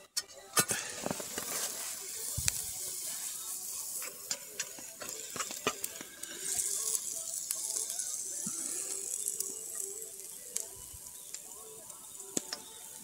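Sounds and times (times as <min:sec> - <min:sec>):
stew sizzling in a pot: 0:00.6 - 0:13.0
wood fire crackling and popping: 0:00.6 - 0:13.0.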